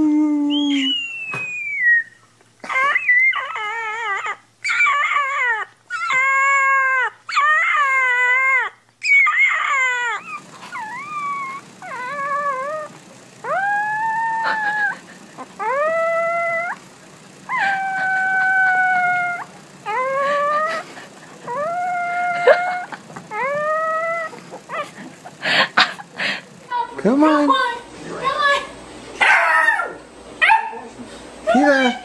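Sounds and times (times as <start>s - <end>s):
puppies howling: 0.9s - 26.9s, 29.2s - 30.8s.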